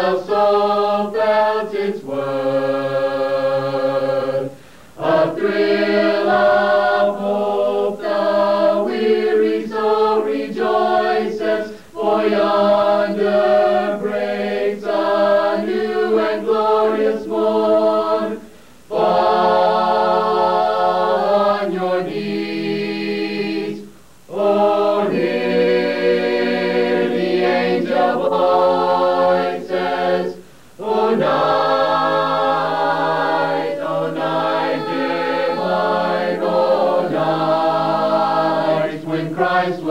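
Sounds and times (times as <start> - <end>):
choir singing a cappella: 0.0 - 39.9.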